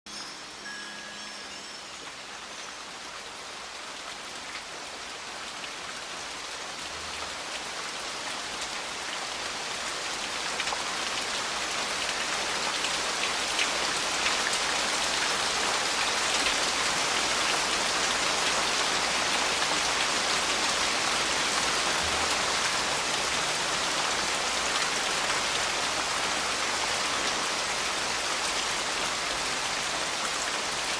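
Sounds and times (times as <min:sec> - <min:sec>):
rain falling: 0:00.1 - 0:30.9.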